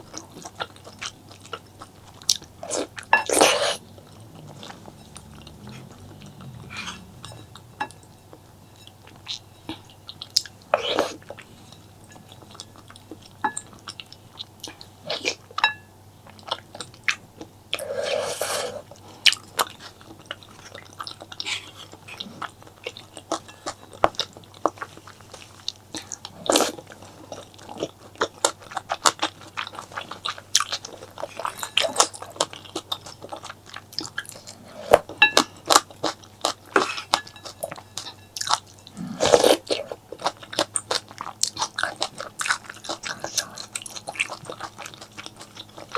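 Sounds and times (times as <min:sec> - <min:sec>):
chewing and biting: 0:00.0 - 0:45.9
food crunching: 0:00.0 - 0:45.9.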